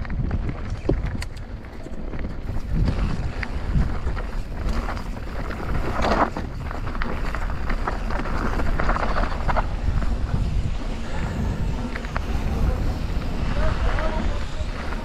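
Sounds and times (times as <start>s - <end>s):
bike rattling: 0.0s - 15.0s
gravel scrape: 0.0s - 15.0s
wind rumbling on microphone: 0.0s - 15.0s
tyres crunching over gravel: 0.4s - 15.0s.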